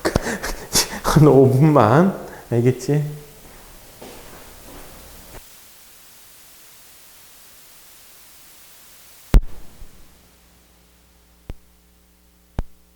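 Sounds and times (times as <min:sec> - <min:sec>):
low mains hum: 0:00.0 - 0:12.9
recording hiss: 0:00.0 - 0:12.9.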